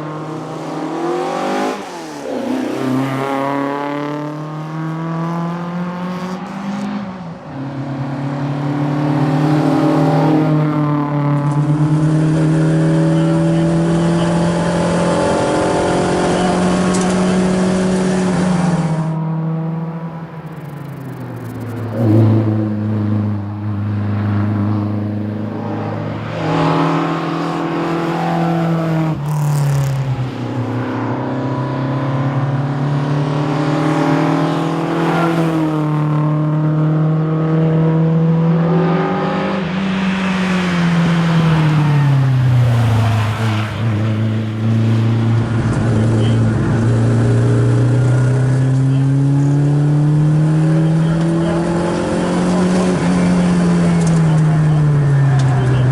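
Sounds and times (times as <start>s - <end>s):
car engine accelerating hard: 0.0s - 55.9s.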